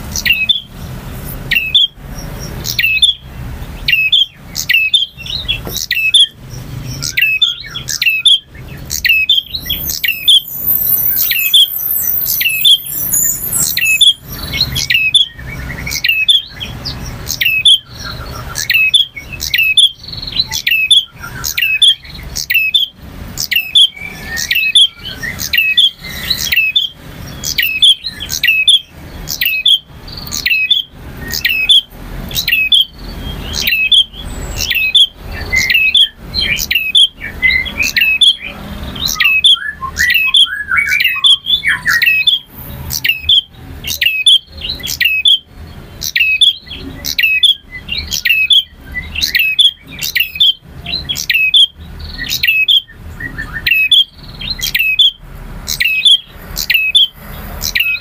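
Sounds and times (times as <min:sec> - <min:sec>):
bird chirping and warbling: 0:00.0 - 0:58.0.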